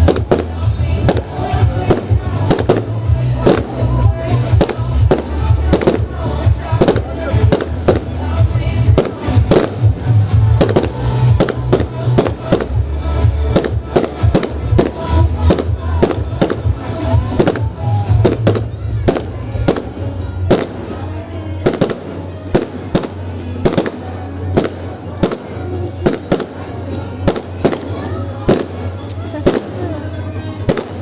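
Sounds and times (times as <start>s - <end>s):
fireworks bangs: 0.0s - 31.0s
music playing: 0.0s - 31.0s.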